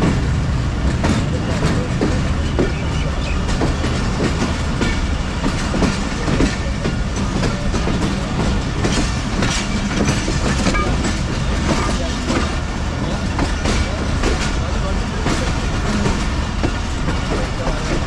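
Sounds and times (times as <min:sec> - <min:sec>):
train coaches rumbling on track: 0:00.0 - 0:18.0
wheels clattering over rail joints: 0:00.0 - 0:18.0.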